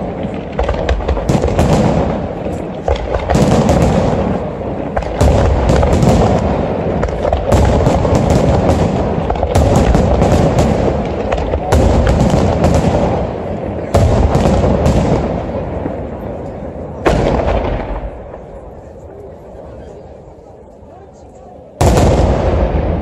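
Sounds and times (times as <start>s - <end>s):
firework cracks: 0.0s - 18.7s
firework booms: 0.0s - 18.9s, 21.8s - 23.0s.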